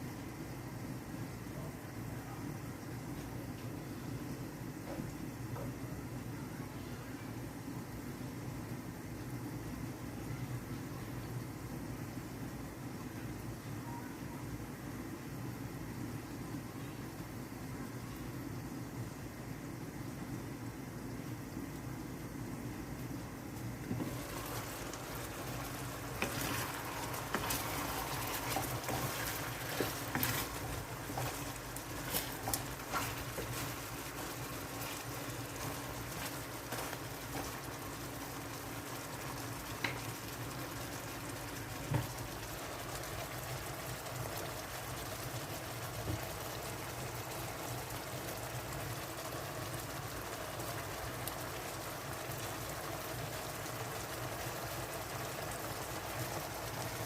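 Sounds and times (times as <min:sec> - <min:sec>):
sauce simmering hiss: 0:00.0 - 0:57.0.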